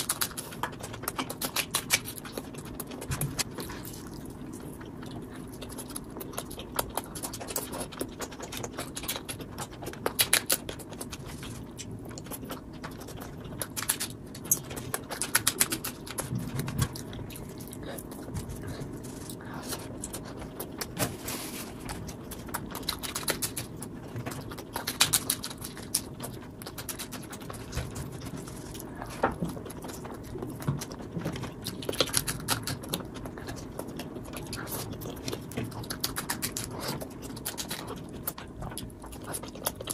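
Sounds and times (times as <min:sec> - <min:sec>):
wet chewing and lip-smacking: 0:00.0 - 0:39.9.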